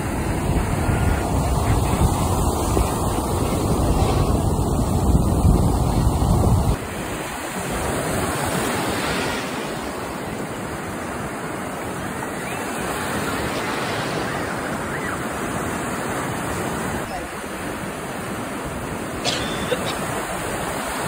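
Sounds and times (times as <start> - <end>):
sea surf breaking on shore: 0.0 - 21.0.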